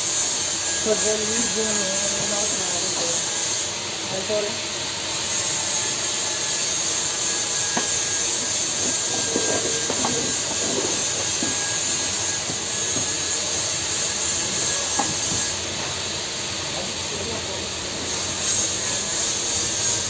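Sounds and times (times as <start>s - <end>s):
rushing air hiss: 0.0s - 20.0s.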